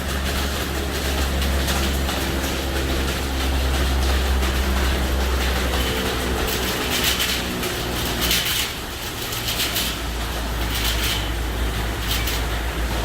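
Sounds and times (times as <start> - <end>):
car wash machine hum: 0.0 - 13.0.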